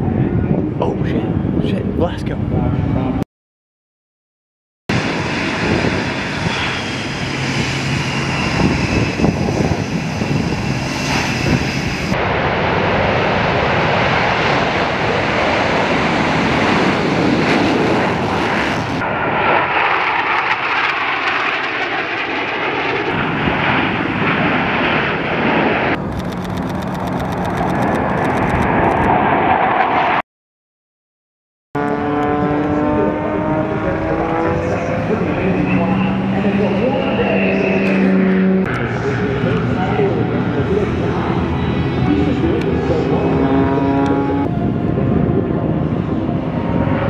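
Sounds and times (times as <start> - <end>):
jet engine roar: 0.0 - 3.2, 4.9 - 30.2, 31.8 - 47.0.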